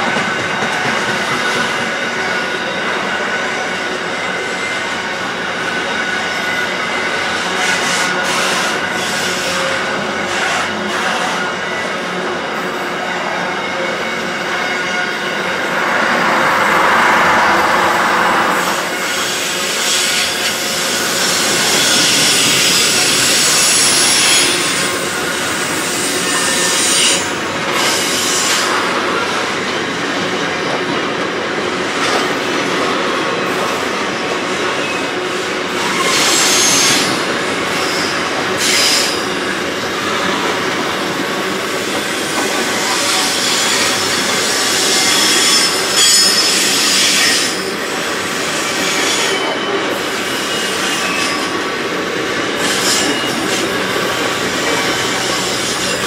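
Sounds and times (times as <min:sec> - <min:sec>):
steel wheels rolling on rail: 0:00.0 - 0:56.0
high wheel squeal: 0:00.2 - 0:29.4, 0:34.7 - 0:56.0.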